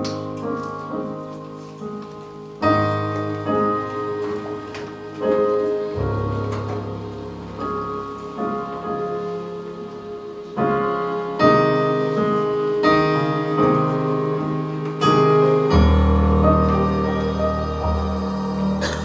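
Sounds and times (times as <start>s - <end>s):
slow piano chords ringing: 0.0s - 19.0s.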